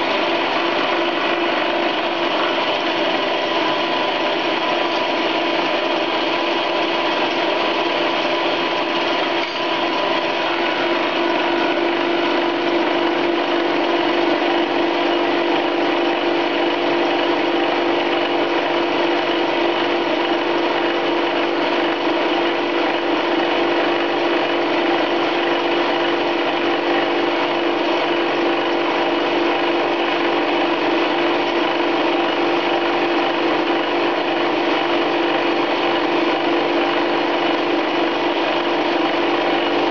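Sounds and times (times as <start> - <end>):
lathe milling steel: 0.0 - 39.9
machine hum: 0.0 - 39.9.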